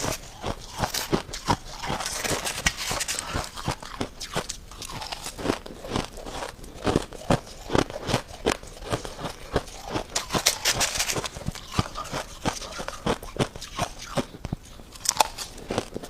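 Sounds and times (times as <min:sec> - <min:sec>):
frost being chewed crunching: 0:00.0 - 0:16.0.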